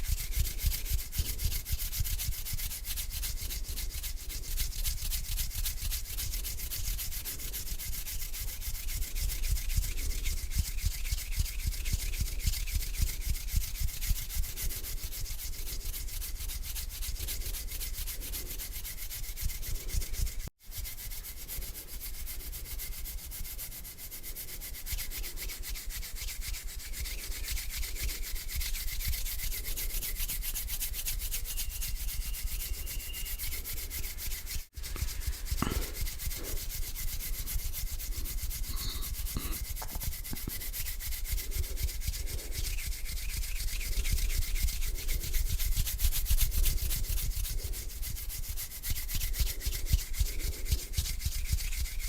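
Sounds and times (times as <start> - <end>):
hands rubbing together: 0.0 - 52.0.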